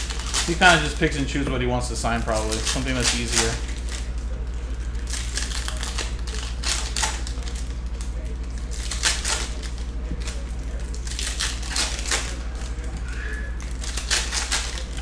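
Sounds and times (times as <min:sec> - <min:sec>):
trading cards clicking and slapping: 0:00.0 - 0:01.1, 0:02.1 - 0:15.0
steady low hum: 0:00.0 - 0:15.0.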